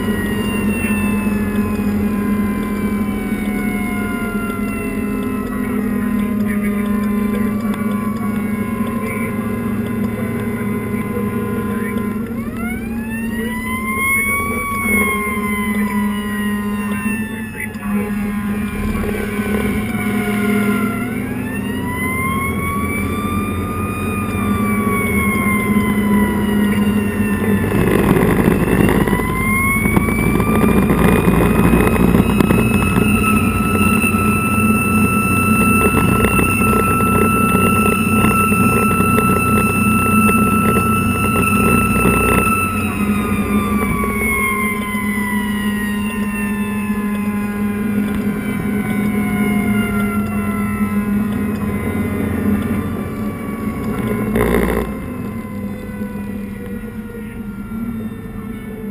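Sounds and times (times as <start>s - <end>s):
engine drone: 0.0s - 58.9s
fire engine siren: 0.0s - 58.9s.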